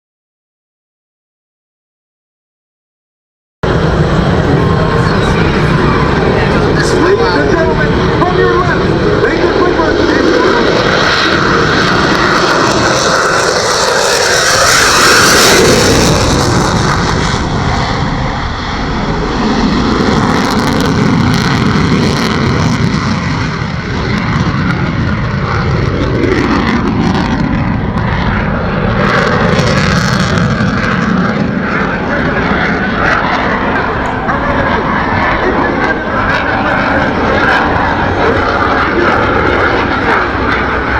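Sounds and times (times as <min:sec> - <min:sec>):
fighter jet engine roaring: 0:03.6 - 0:40.9.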